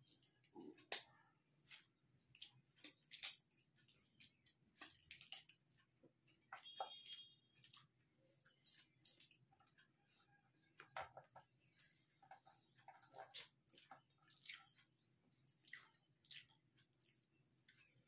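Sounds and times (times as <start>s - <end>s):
people chewing and lip smacking: 0.0s - 18.0s.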